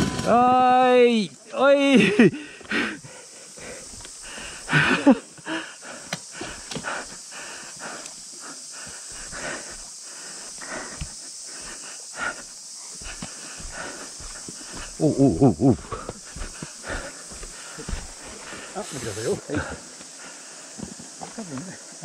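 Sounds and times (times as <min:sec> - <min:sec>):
heavy rhythmic panting: 0:02.3 - 0:20.8.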